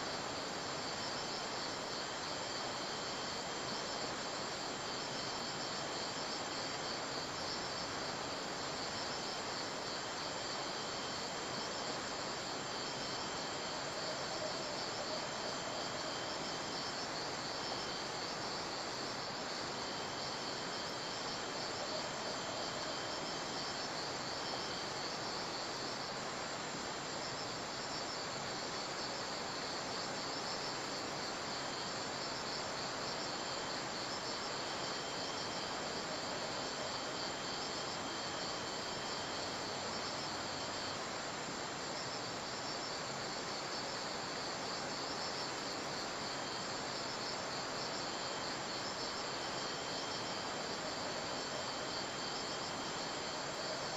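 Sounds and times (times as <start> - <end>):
background hiss: 0.0 - 53.9
crickets chirping: 0.0 - 53.9.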